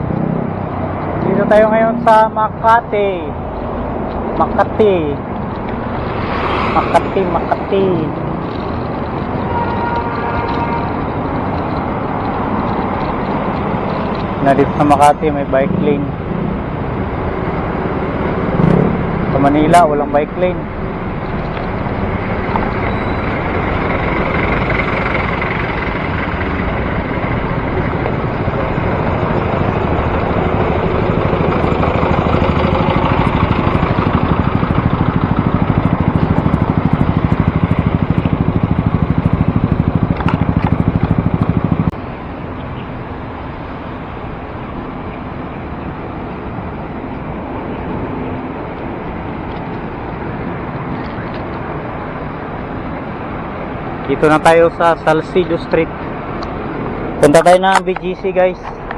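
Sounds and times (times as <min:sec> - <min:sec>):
road traffic rush: 0:00.0 - 0:58.9.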